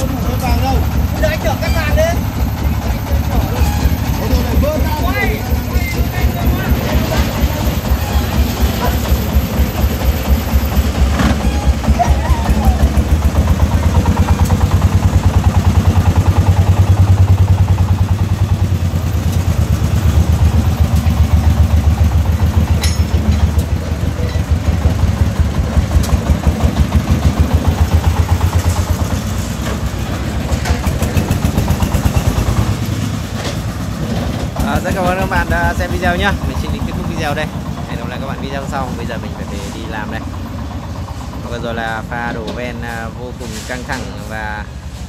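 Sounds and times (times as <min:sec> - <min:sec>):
diesel truck engine chugging: 0:00.0 - 0:45.0.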